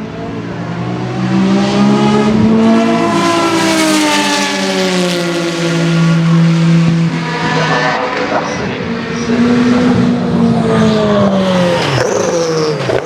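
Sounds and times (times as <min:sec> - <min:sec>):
race car engines running: 0:00.0 - 0:13.0
race car passing by: 0:00.0 - 0:13.0.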